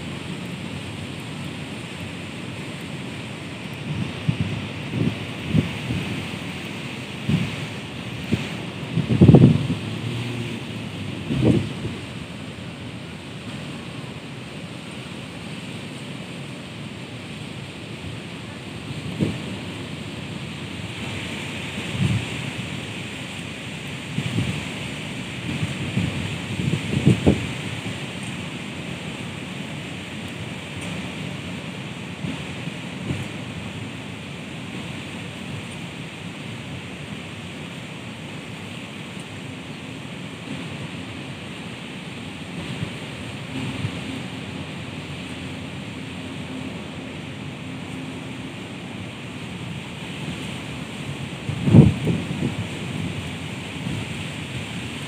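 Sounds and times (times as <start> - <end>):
strong wind through trees: 0.0 - 55.0.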